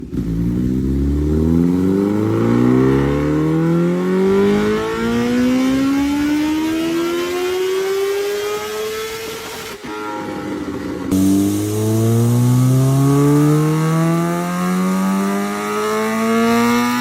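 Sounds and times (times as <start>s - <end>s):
motorcycle engine accelerating: 0.0s - 9.6s, 10.4s - 17.0s.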